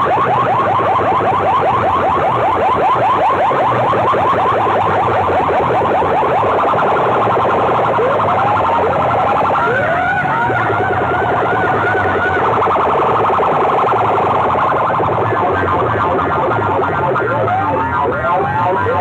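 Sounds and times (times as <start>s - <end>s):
fast pulsing beat: 0.0s - 19.0s
siren-like whooping sweeps: 0.0s - 19.0s.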